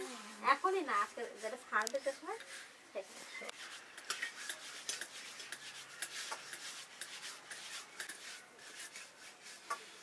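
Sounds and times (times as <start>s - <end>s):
palms rubbing dough: 0.0s - 10.0s.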